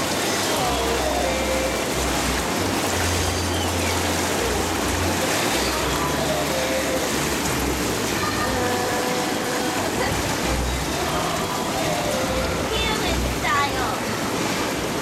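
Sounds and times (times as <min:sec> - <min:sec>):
hot tub jets bubbling: 0:00.0 - 0:15.0.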